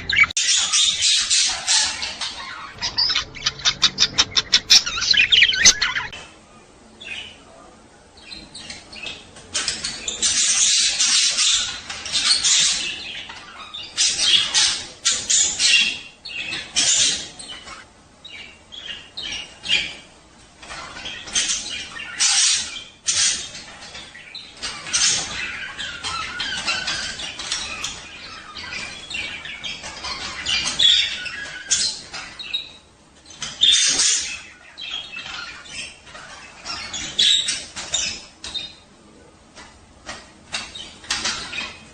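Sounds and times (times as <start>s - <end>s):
budgerigars chattering and squawking: 0.0s - 6.2s, 8.2s - 38.9s, 40.1s - 41.9s.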